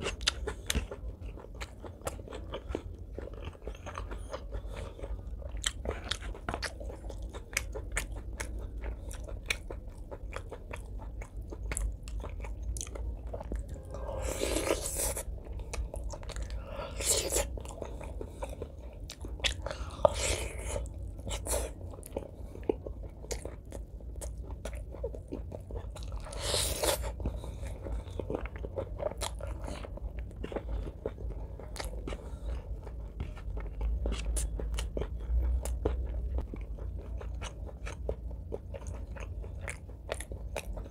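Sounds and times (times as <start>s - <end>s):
chewing and biting: 0.0s - 40.9s
steady low hum: 0.0s - 40.9s.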